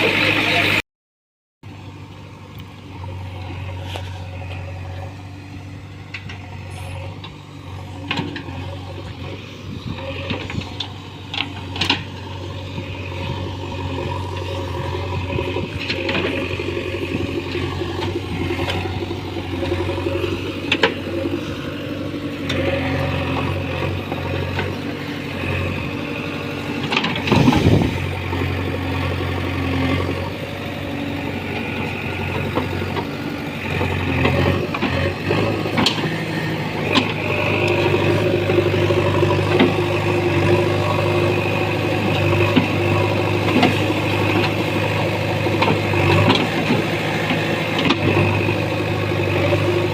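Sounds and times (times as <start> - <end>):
diesel engine running: 0.0 - 0.8, 1.6 - 49.9.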